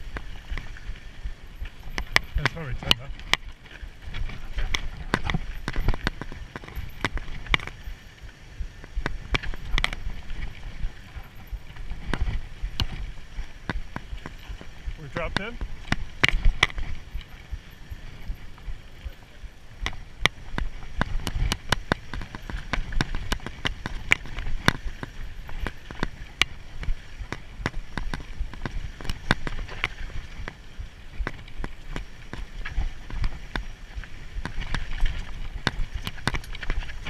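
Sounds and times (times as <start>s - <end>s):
bike clicks and rattles: 0.0s - 37.0s
steady low rumble: 0.0s - 37.0s.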